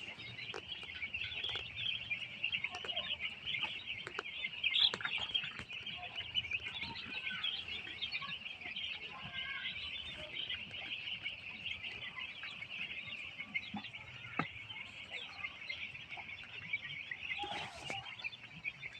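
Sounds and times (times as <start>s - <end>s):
chickens cheeping in chorus: 0.0s - 18.9s.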